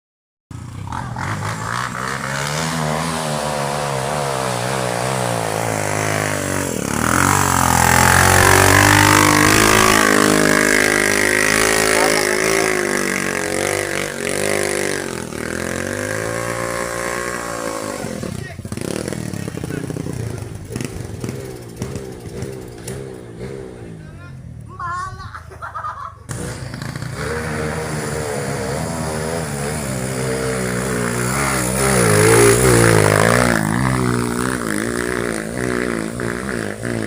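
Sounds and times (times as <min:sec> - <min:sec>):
dirt bike engine revving: 0:00.5 - 0:24.2, 0:26.3 - 0:37.0.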